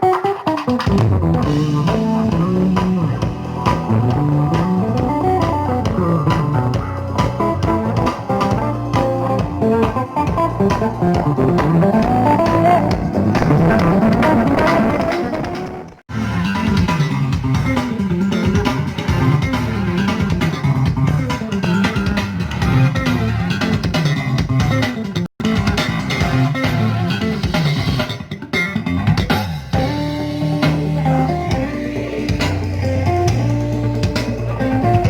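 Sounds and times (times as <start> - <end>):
loud music with bass guitar and drums: 0.0 - 35.0.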